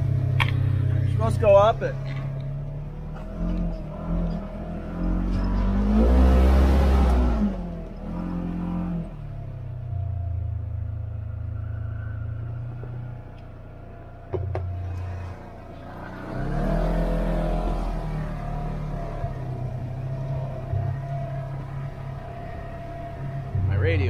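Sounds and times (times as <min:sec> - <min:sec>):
engine working under load: 0:00.0 - 0:24.0.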